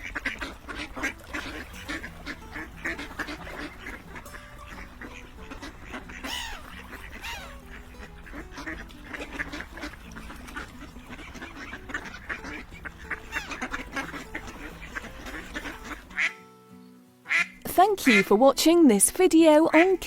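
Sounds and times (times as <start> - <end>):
ducks quacking: 0.0 - 16.5, 17.2 - 18.4.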